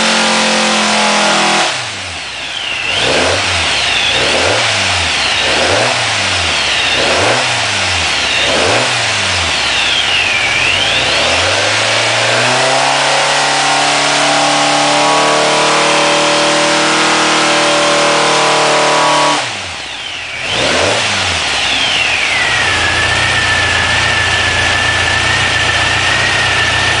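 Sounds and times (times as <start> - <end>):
engine revving: 0.0 - 27.0
high whine: 0.0 - 27.0.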